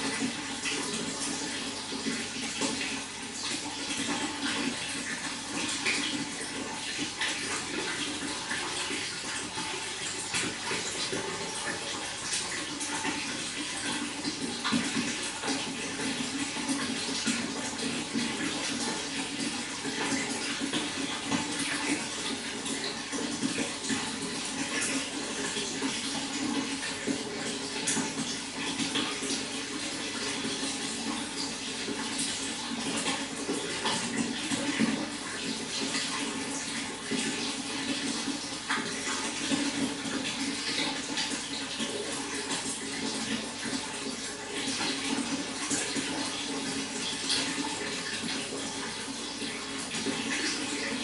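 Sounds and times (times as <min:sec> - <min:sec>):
running water flowing: 0:00.0 - 0:51.0.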